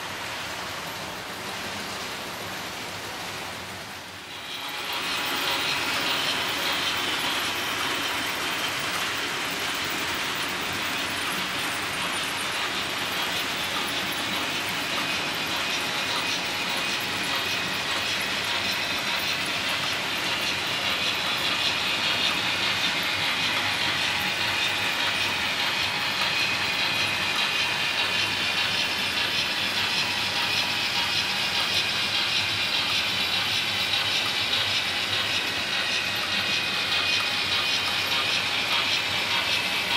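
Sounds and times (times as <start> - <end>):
model train wheels rattling on rails: 0.0 - 39.9.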